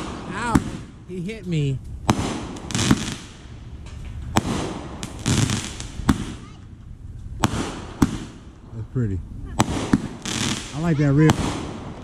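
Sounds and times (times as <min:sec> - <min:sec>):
fireworks bangs: 0:00.0 - 0:12.0
fireworks hissing crackle: 0:00.0 - 0:12.0.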